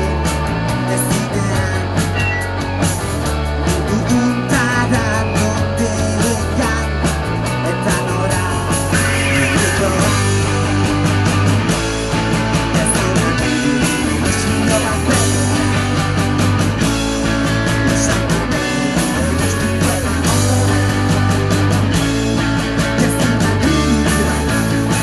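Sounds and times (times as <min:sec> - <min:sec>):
bass guitar: 0:00.0 - 0:25.0
drum kit beat: 0:00.0 - 0:25.0
electric guitars: 0:00.0 - 0:25.0.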